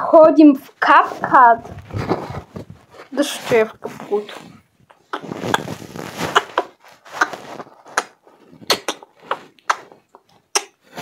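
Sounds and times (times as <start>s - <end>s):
short rustling: 0.8s - 9.9s.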